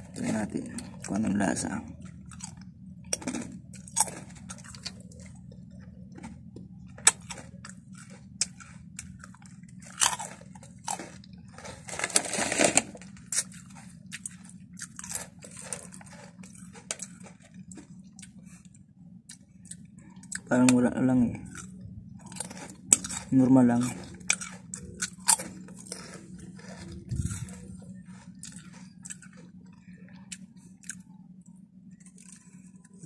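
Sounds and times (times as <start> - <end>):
low steady hum: 0.0 - 33.0
person crunching potato chips: 0.1 - 18.6, 19.2 - 31.2, 32.0 - 33.0.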